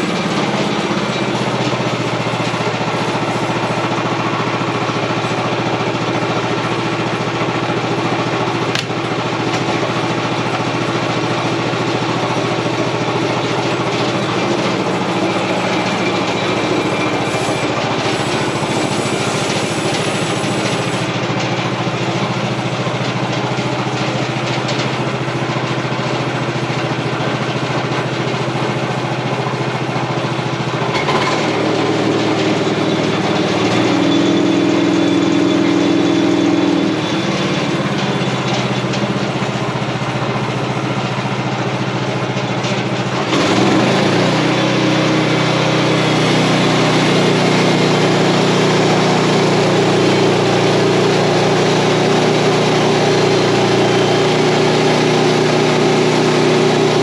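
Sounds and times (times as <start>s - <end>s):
blade sawing a log: 0.0s - 57.0s
sawmill engine running under load: 0.0s - 57.0s.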